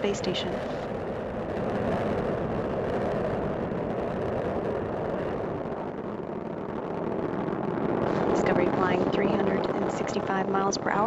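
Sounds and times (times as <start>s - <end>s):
rocket engines roaring: 0.0s - 11.0s.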